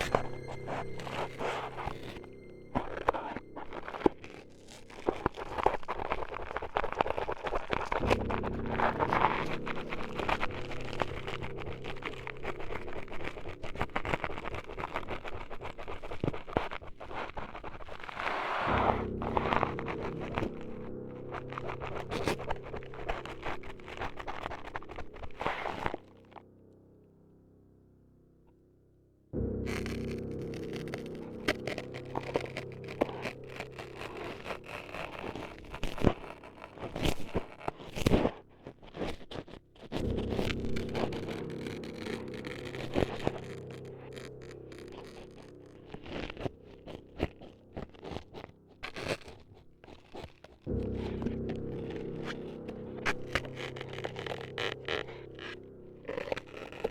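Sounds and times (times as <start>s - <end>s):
low steady drone: 0.0s - 15.8s, 18.6s - 37.7s, 39.9s - 49.9s, 50.6s - 56.9s
scratching and cutting noises: 0.0s - 26.4s, 29.4s - 56.9s
sharp crunches: 0.0s - 26.4s, 29.4s - 56.9s
low steady hum: 0.0s - 56.9s.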